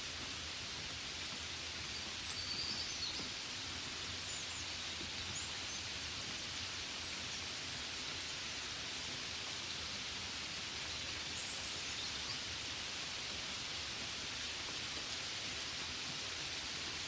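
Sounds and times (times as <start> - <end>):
gentle rain hiss: 0.0 - 17.0.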